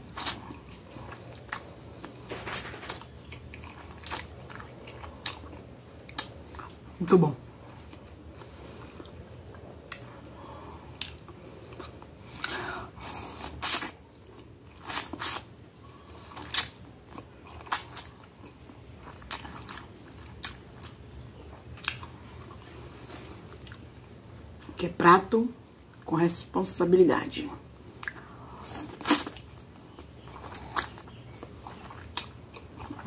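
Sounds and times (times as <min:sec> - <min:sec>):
wet chewing: 0:00.1 - 0:06.9, 0:07.5 - 0:24.8, 0:27.9 - 0:33.0.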